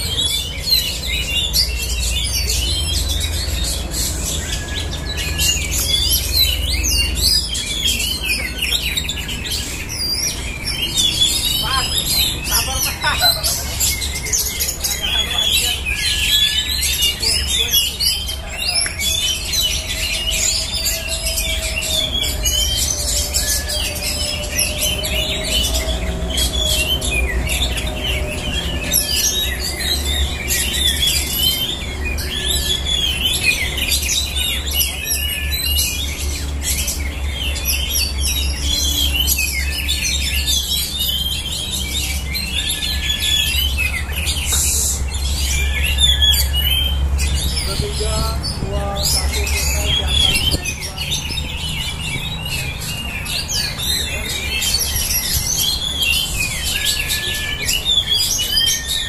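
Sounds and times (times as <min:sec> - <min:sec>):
caged birds chirping and whistling: 0:00.0 - 0:59.0.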